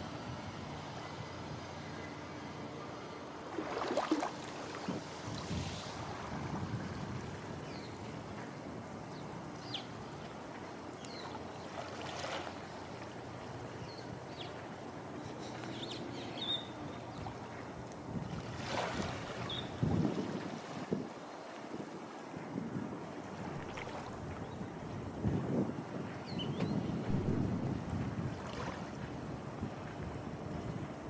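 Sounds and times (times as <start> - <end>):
small waves on sandy beach: 3.4 - 13.8, 14.4 - 26.2, 27.1 - 30.8.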